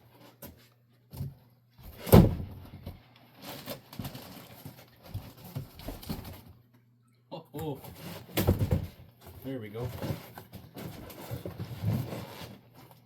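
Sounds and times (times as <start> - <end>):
cardboard rustling: 0.0 - 6.6, 7.7 - 13.0
knocks and scrapes: 0.0 - 6.6, 7.6 - 13.0.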